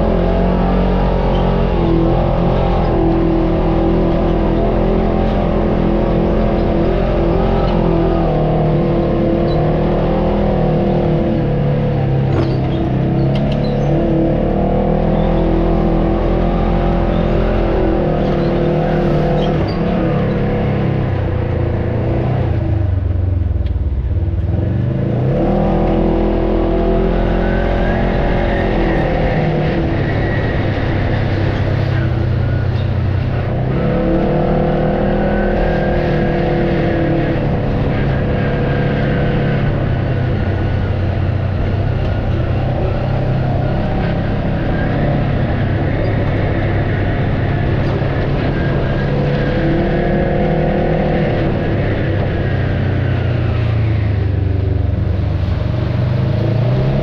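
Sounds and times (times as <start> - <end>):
off-road vehicle engine: 0.0 - 57.0.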